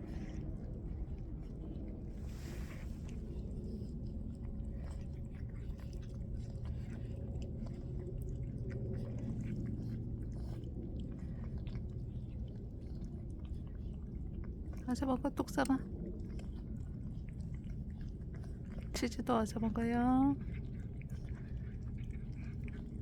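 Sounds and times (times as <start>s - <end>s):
cats chewing food: 0.0s - 23.0s
steady low hum: 0.0s - 23.0s.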